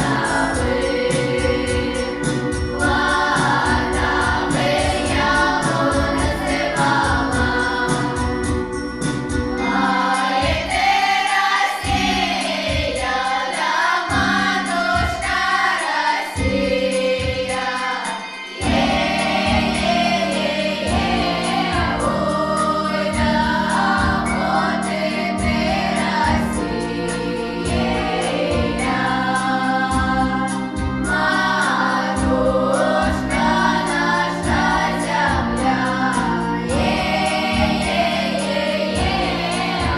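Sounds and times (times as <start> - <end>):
choir singing: 0.0 - 39.9
instrumental accompaniment with beat: 0.0 - 39.9.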